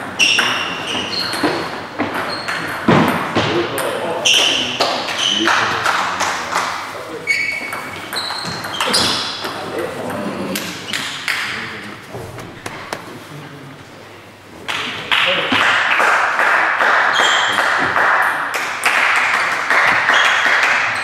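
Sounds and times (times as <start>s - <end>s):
crowd noise: 0.0s - 21.0s
loud voices: 0.0s - 21.0s.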